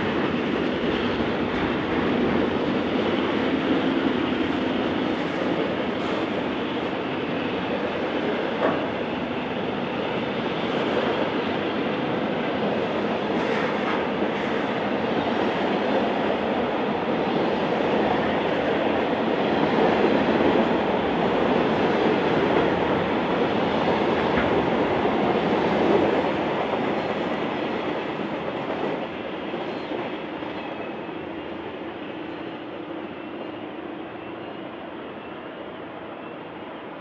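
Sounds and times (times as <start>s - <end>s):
freight train rolling past: 0.0s - 37.0s.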